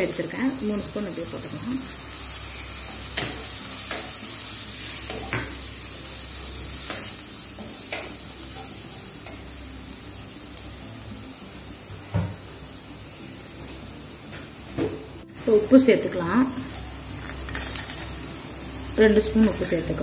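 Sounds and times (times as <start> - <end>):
masala sizzling in a pot: 0.0 - 20.0.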